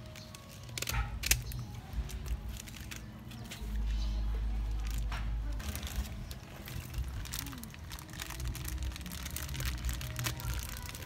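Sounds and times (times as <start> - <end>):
plastic bag crinkling in water: 0.0 - 3.3, 4.5 - 11.0.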